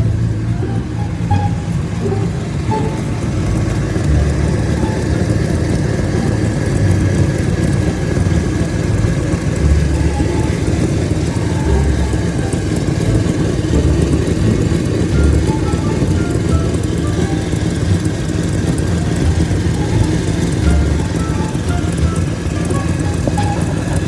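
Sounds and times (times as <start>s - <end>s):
car engine with exhaust rumble: 0.0s - 24.0s.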